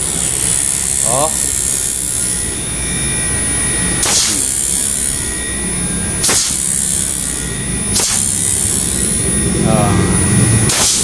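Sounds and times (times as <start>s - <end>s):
compressor hum with high whine: 0.0s - 11.0s.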